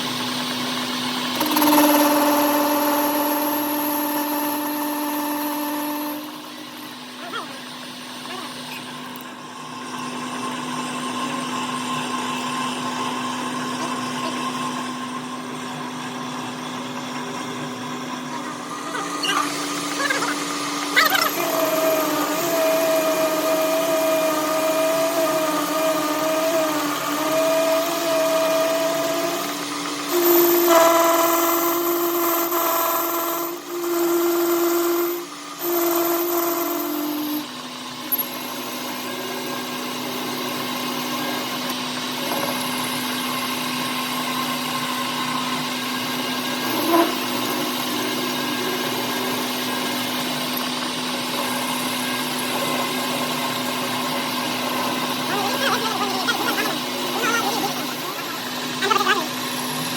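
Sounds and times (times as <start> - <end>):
power tool motor running: 0.0 - 59.9.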